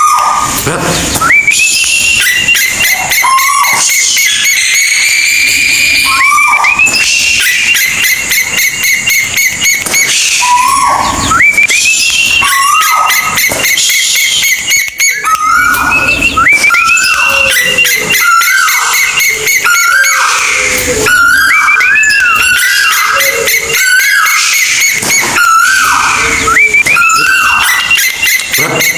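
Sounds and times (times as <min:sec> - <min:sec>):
bird whistled calls: 0:00.0 - 0:28.9.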